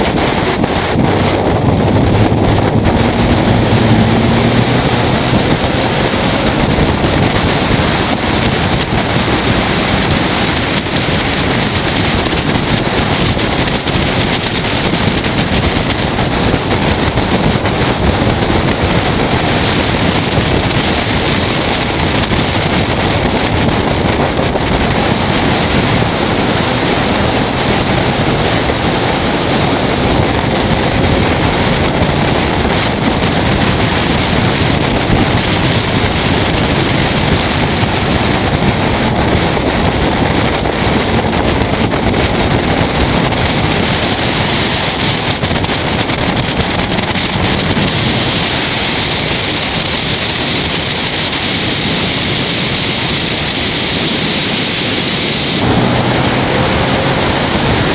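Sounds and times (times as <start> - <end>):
race car engine running: 0.0 - 57.9
road noise: 0.0 - 57.9
wind buffeting microphone: 0.0 - 57.9.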